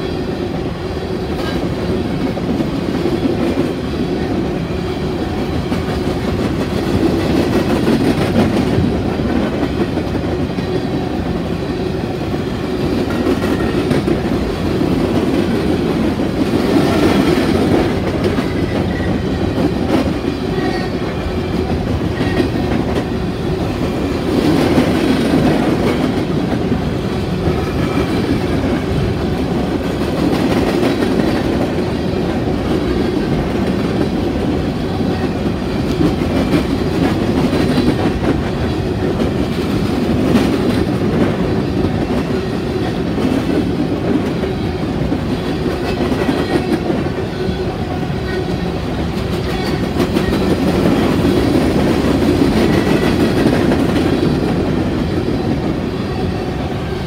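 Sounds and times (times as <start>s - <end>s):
steel wheels on rails: 0.0s - 57.0s.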